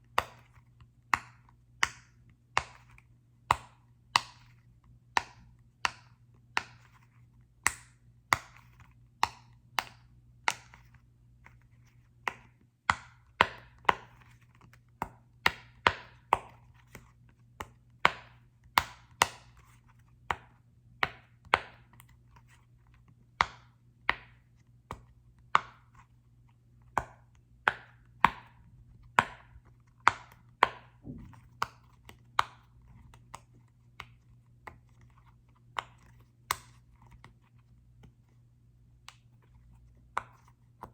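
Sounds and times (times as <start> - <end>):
taps and clicks on small object: 0.0 - 26.1, 26.8 - 38.2.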